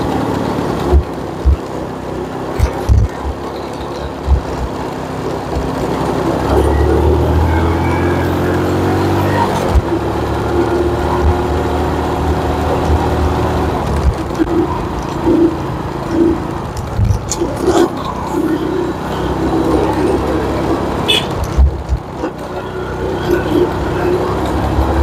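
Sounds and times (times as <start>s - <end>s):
small motorcycle engine cruising: 0.0s - 25.0s.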